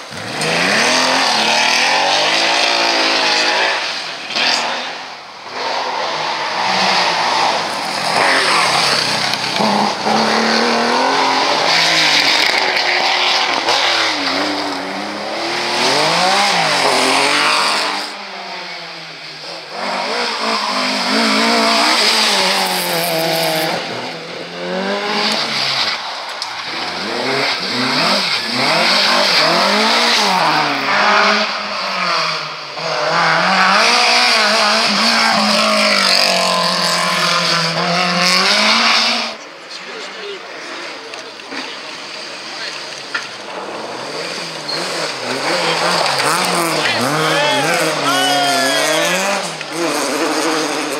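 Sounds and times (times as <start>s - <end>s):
rally cars passing at full throttle: 0.0s - 50.9s.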